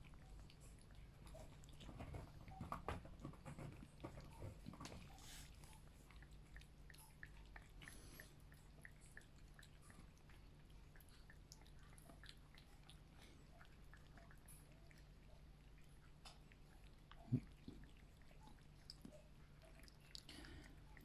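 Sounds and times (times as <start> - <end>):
cats chewing and crunching food: 0.0 - 21.0.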